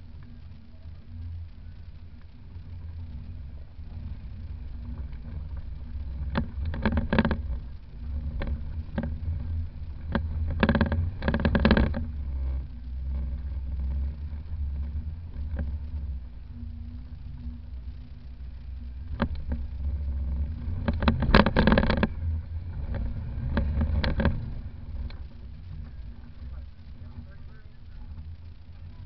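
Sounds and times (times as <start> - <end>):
engine low rumble: 0.0 - 29.0.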